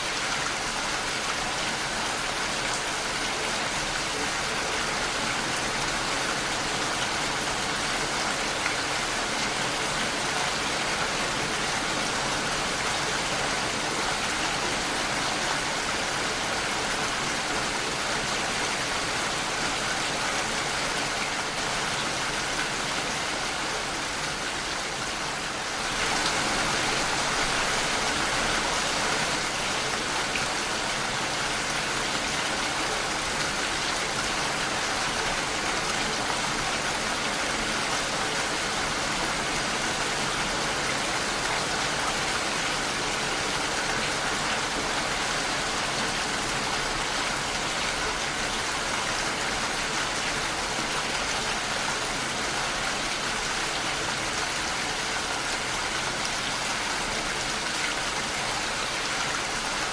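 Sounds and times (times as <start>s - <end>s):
rain against a window pane: 0.0s - 59.9s.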